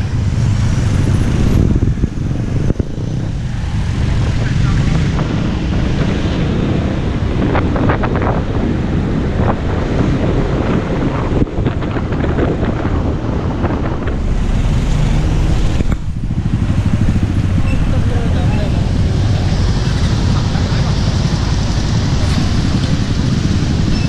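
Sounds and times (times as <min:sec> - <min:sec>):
motorcycle engine: 0:00.0 - 0:09.8, 0:11.5 - 0:24.0
street traffic: 0:00.0 - 0:24.0
wind buffeting microphone: 0:00.0 - 0:24.0.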